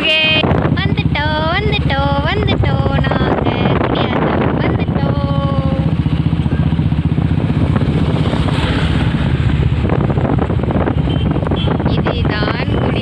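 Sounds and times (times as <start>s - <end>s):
wind noise on microphone: 0.0s - 6.2s, 6.9s - 13.0s
motorcycle engine thumping: 0.4s - 12.6s.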